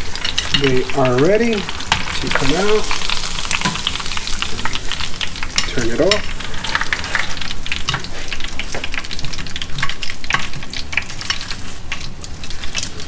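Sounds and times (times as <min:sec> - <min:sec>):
oil deep-frying with crackles: 0:00.0 - 0:13.0.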